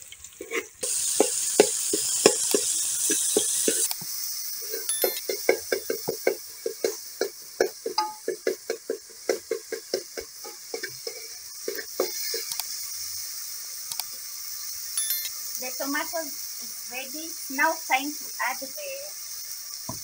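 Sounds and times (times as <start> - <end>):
oil sizzling: 0.0 - 20.0.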